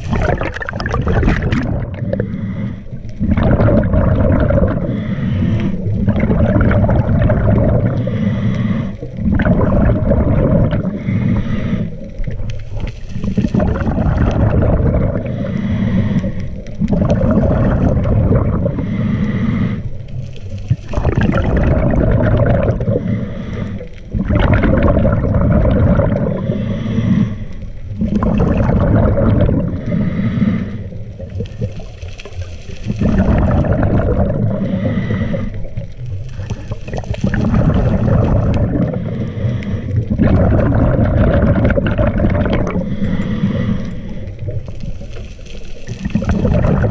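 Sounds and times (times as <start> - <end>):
underwater regulator breathing: 0.0 - 46.9.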